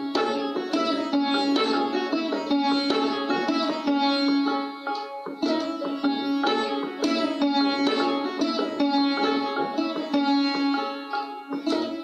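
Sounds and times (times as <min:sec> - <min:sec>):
sitar plucked notes: 0:00.0 - 0:12.0.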